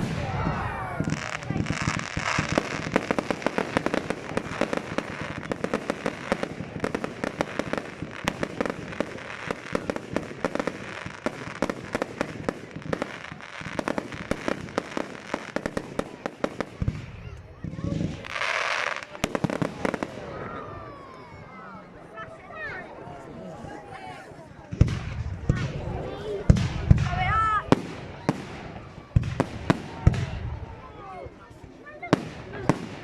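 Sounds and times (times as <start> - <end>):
fireworks crackling: 0.0 - 21.2, 24.6 - 33.0.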